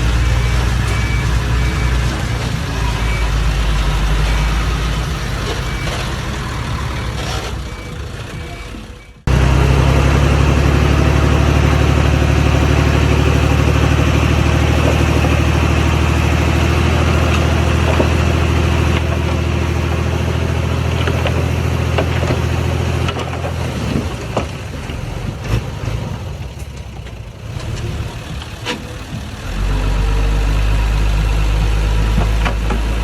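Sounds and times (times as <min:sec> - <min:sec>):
diesel machinery engine running: 0:00.0 - 0:33.0.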